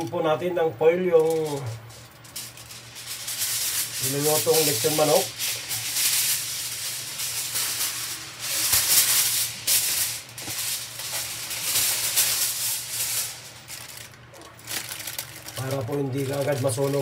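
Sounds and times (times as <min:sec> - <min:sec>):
aluminium foil crinkling: 0:01.0 - 0:17.0.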